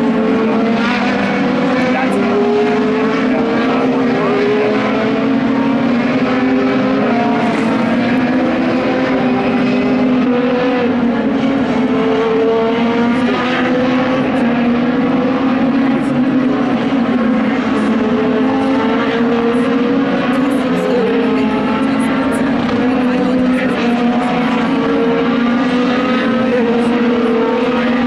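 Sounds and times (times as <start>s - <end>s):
race car engines accelerating: 0.0s - 28.0s.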